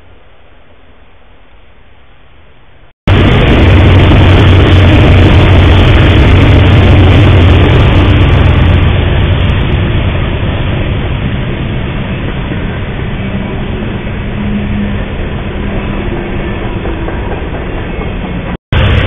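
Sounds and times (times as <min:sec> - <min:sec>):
low hum: 0:00.0 - 0:17.6
freight train rumbling and rattling: 0:03.1 - 0:19.0.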